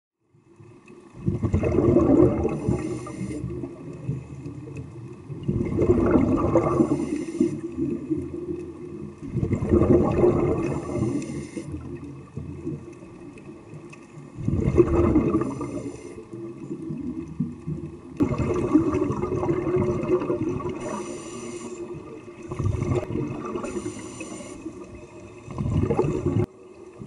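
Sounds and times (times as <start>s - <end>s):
exhaled bubbles underwater: 0.4s - 27.0s.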